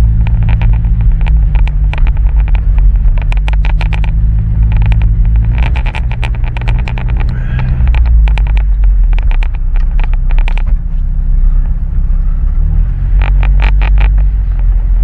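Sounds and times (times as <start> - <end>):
short clicks and rattles: 0.0 - 10.8, 13.2 - 14.8
truck engine and road rumble: 0.0 - 15.0.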